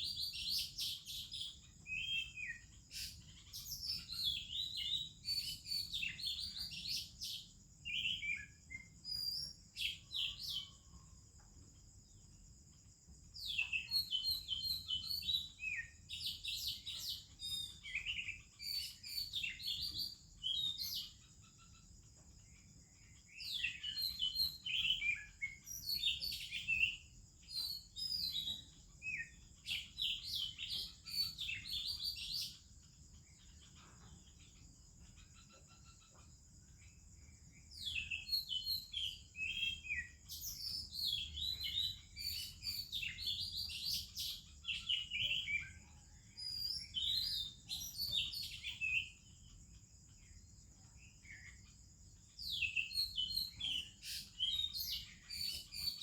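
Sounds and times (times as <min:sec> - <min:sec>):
bird singing whistles and warbles: 0:00.0 - 0:56.0.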